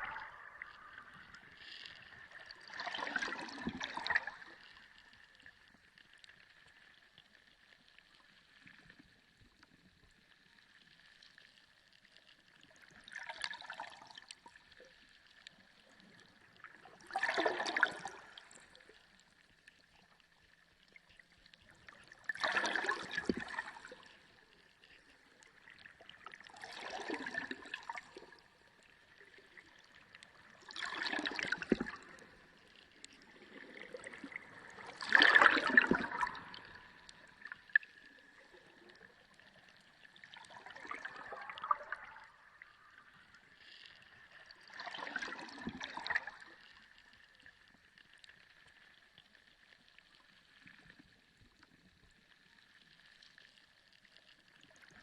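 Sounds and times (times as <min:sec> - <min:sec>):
bubbling gurgling water underwater: 0:00.0 - 0:55.0.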